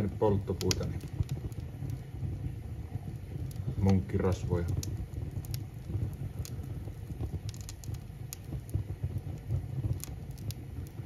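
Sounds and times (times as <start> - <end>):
low rumble of flame: 0.0 - 11.0
wood fire crackling: 0.0 - 11.0.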